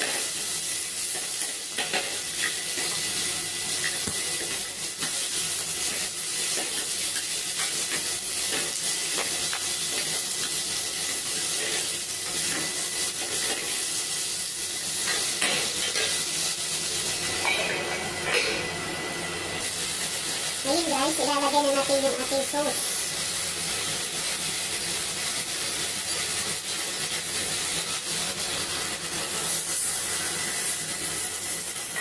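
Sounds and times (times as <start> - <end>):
vegetables sizzling in a pot: 0.0 - 32.0.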